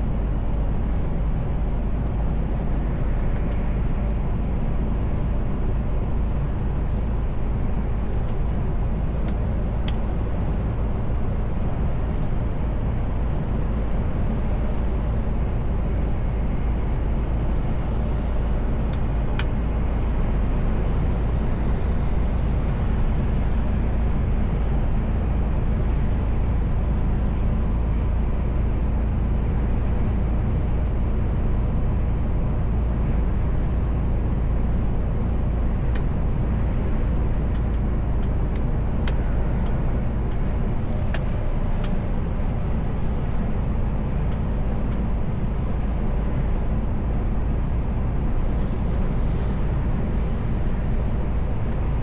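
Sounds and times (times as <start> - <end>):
road noise: 0.0 - 52.0
truck engine drone: 0.0 - 52.0.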